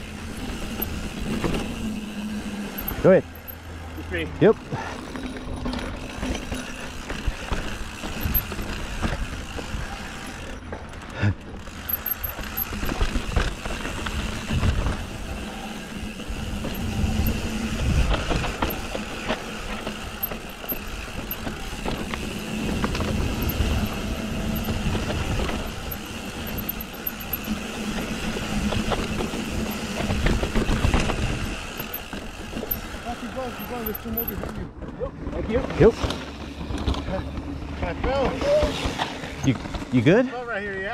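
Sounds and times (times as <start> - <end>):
bike tyres rolling over sand: 0.0 - 34.6
bike knocking and rattling: 0.0 - 40.9.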